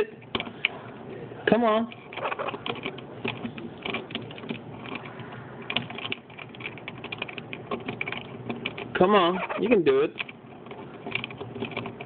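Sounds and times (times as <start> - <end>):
bird beak gnawing on plastic: 2.0 - 12.0.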